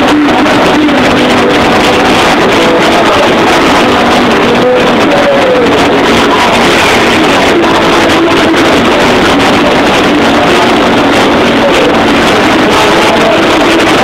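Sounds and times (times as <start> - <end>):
distorted punk rock band: 0.0 - 14.0.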